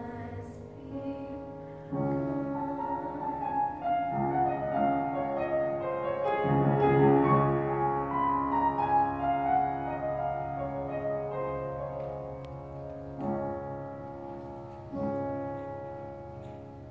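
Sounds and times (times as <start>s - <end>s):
slow piano music: 0.0s - 16.9s.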